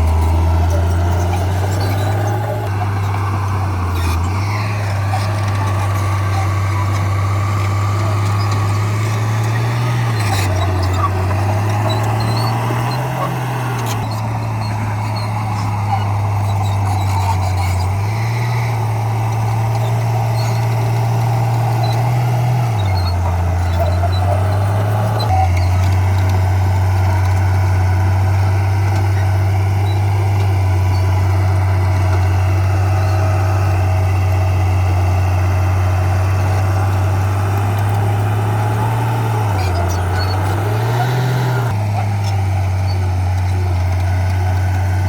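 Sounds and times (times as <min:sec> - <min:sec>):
diesel engine of heavy machinery: 0:00.0 - 0:45.0.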